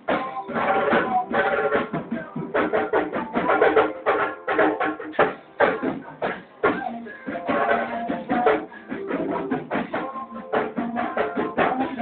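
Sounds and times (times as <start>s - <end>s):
hand drums beating fast rhythm: 0.0s - 12.0s.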